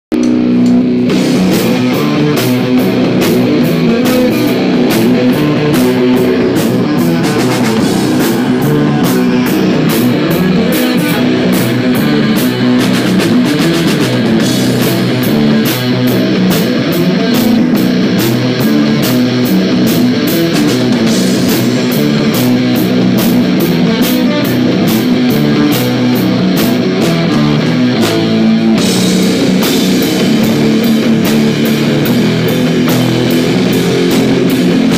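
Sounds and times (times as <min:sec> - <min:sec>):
bass guitar: 0:00.0 - 0:34.9
electric guitars: 0:00.1 - 0:34.9
drum kit fast beat: 0:00.2 - 0:34.9.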